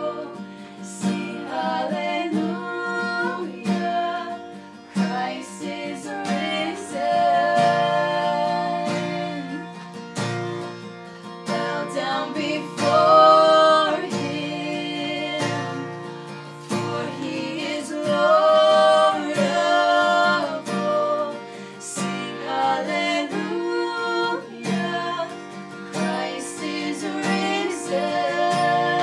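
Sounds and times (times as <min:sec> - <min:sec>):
woman singing: 0:00.0 - 0:09.8, 0:11.4 - 0:16.0, 0:16.7 - 0:29.0
acoustic guitar strumming: 0:00.0 - 0:29.0.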